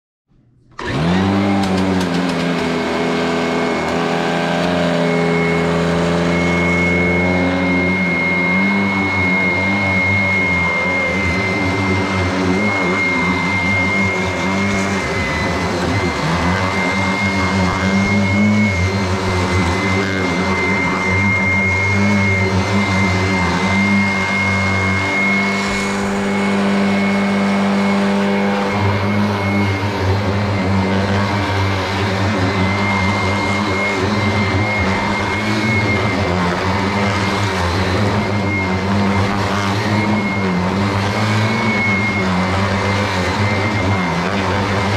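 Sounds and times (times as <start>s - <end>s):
vacuum cleaner motor whining: 0.6s - 44.9s.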